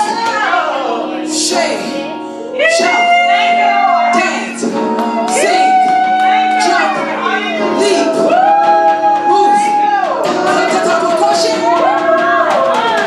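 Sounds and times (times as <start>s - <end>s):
sustained instrumental chords: 0.0s - 13.0s
woman singing: 0.0s - 13.0s.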